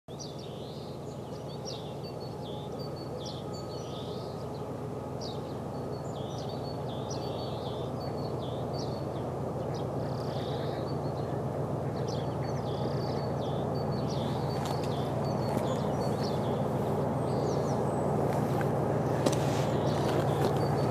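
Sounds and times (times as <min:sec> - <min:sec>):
distant locomotive engine rumble: 0:00.1 - 0:20.9
small birds chirping: 0:00.1 - 0:20.9.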